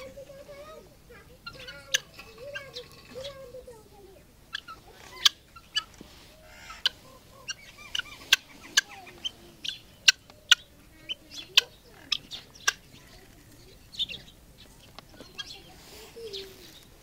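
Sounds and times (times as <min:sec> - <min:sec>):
guineafowl clucking: 0:00.0 - 0:03.7, 0:04.4 - 0:16.9.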